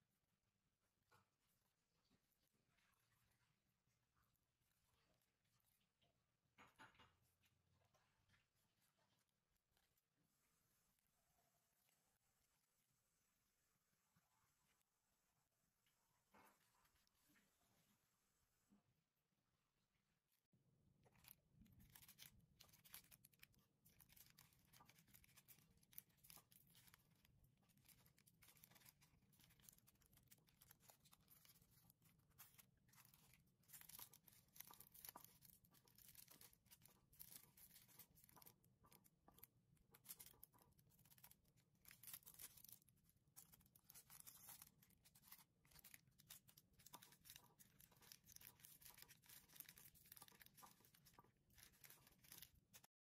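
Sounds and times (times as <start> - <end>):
sugar crackling and rustling: 0.0 - 12.9, 20.6 - 53.0.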